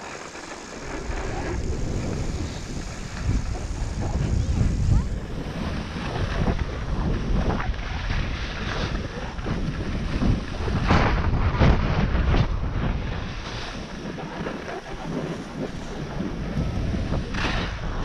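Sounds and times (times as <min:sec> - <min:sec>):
skis hissing over snow: 0:00.0 - 0:18.0
wind buffeting microphone: 0:00.0 - 0:18.0.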